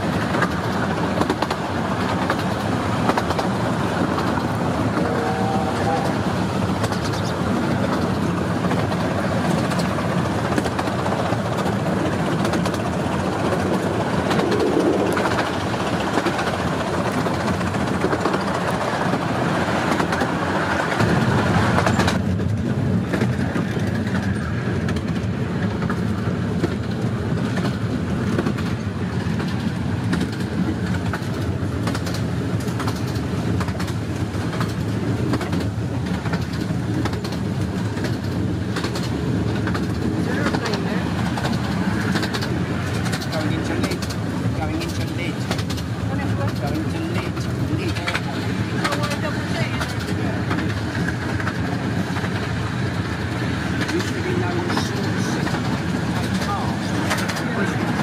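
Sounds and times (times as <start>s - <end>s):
rapid clicking over track: 0.0s - 58.0s
train wheels rumbling on rails: 0.0s - 58.0s.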